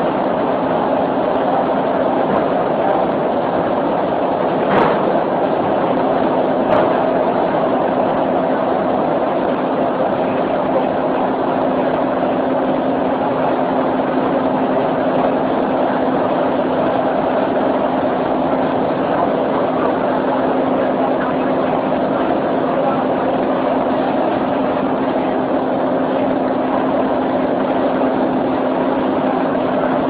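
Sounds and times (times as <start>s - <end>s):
constant hum: 0.0s - 30.0s.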